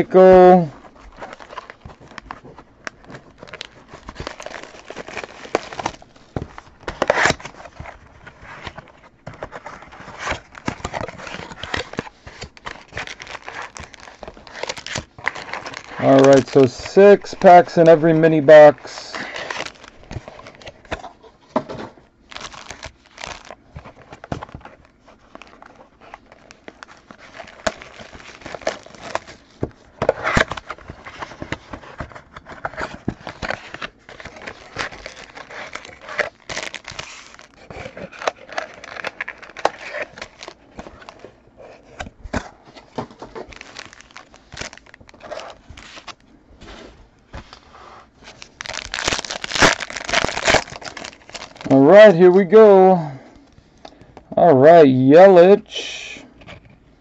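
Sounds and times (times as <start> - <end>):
card packs torn open: 0.0 - 21.1, 22.2 - 46.2, 48.2 - 52.8
wrappers crinkling and rustling: 0.0 - 53.6.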